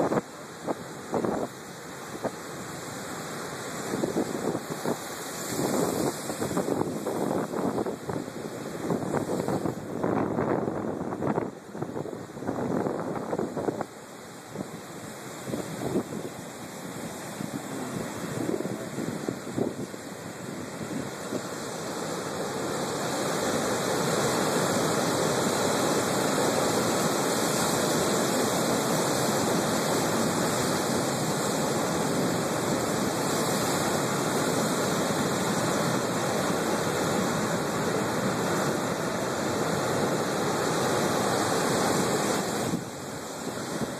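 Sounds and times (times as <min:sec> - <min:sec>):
surf breaking on rocky shore: 0:00.0 - 0:43.9.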